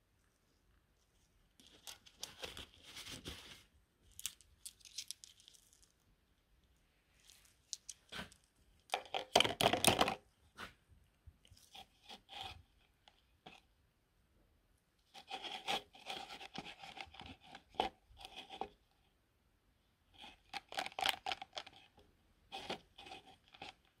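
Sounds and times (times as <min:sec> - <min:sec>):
rustling and crinkling handling noise: 0:00.0 - 0:13.7, 0:15.0 - 0:19.0, 0:20.2 - 0:24.0.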